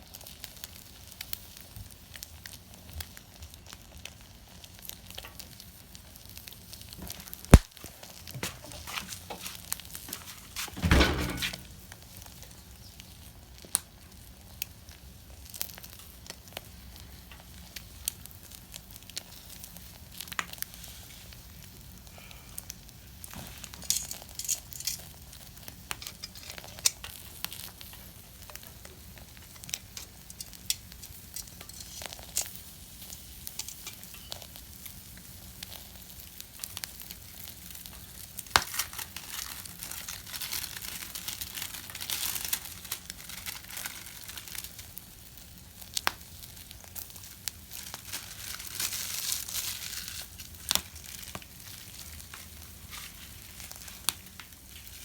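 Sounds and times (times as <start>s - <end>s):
fire crackles and pops: 0.0s - 55.0s
wood fire hissing: 0.0s - 55.0s.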